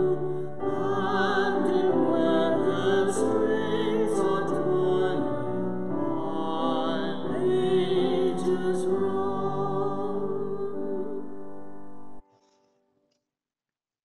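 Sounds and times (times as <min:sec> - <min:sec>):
woman and man singing a hymn: 0:00.0 - 0:11.5.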